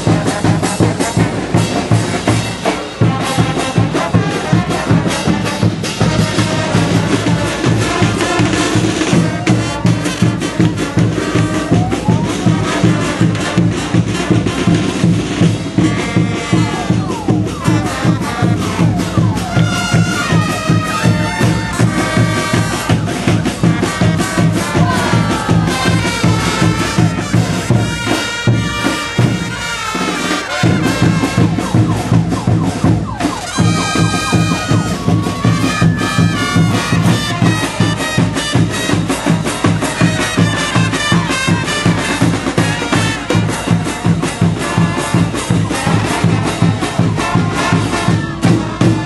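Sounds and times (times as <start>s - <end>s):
brass melody: 0.0s - 49.0s
driving drumbeat: 0.0s - 49.0s.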